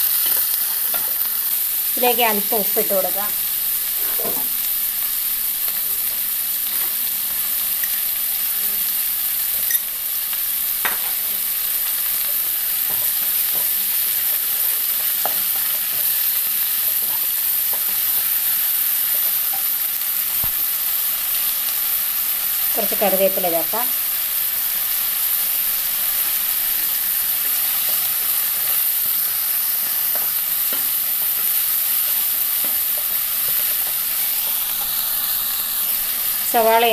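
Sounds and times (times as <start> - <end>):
onions sizzling in oil: 0.0 - 36.9.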